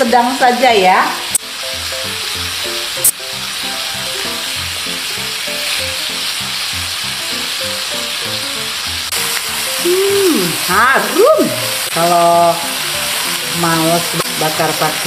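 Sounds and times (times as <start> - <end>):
fish sizzling in butter: 0.0 - 15.0
soft plucked background music: 0.0 - 15.0.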